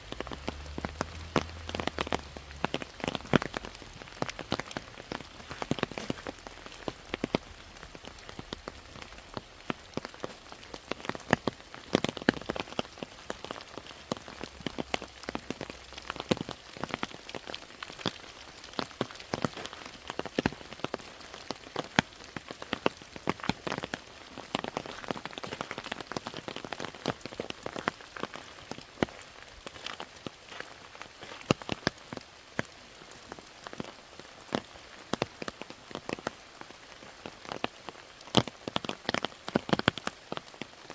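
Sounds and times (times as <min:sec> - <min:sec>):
loud raindrops striking close by: 0:00.0 - 0:40.9
rain falling steadily: 0:00.0 - 0:40.9.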